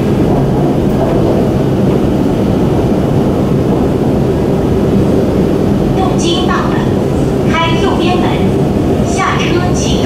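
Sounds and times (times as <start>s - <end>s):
train rumble inside carriage: 0.0s - 10.0s.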